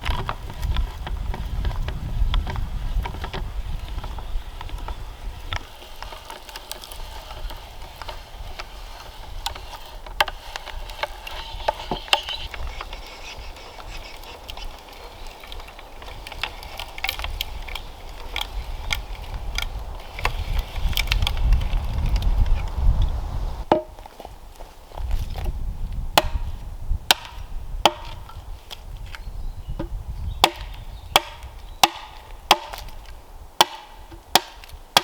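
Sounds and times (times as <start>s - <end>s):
wind rumble on microphone: 0.0s - 6.3s, 6.9s - 34.9s.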